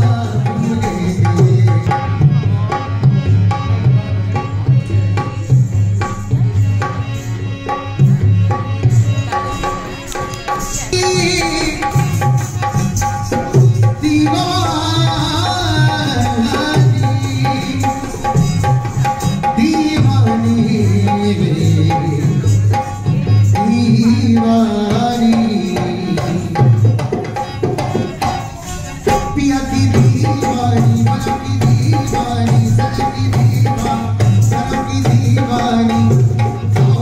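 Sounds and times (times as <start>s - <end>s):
hand drum rhythm: 0.0s - 37.0s.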